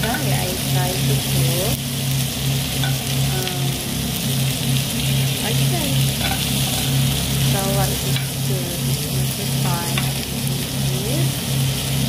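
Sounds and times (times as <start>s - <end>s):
food sizzling in a pan: 0.0s - 12.0s
low pulsing hum: 0.0s - 12.0s.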